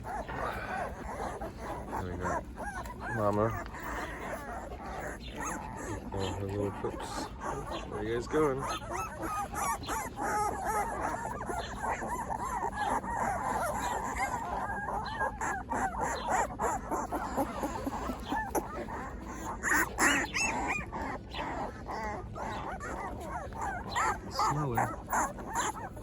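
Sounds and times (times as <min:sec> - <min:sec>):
puppies squeaking and whimpering: 0:00.0 - 0:26.0.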